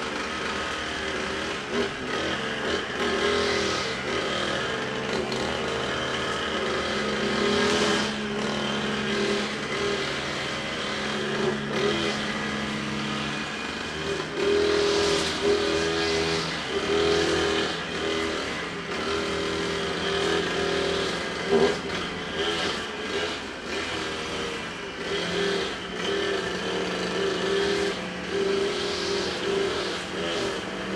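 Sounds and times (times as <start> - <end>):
brush cutter engine revving: 0.0 - 30.9.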